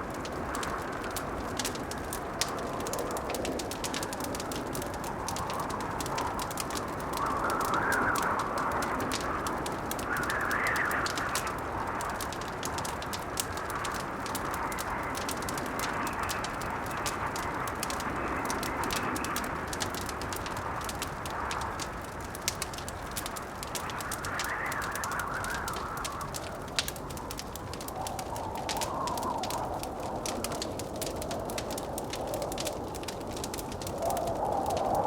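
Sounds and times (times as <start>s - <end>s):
blizzard wind howling: 0.0s - 35.0s
fire popping: 0.0s - 35.0s
wood fire crackling: 0.0s - 35.0s.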